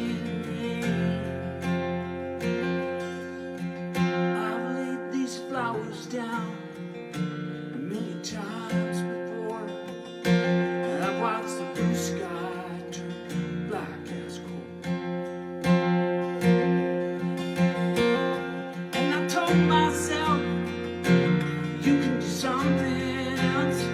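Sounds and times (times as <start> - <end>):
acoustic guitar strumming chords: 0.0 - 23.9.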